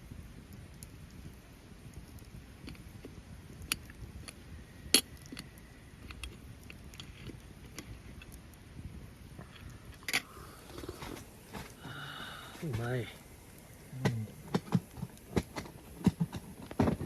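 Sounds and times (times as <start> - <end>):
campfire crackling and popping: 0.0 - 17.0
faint low hiss: 0.0 - 17.0.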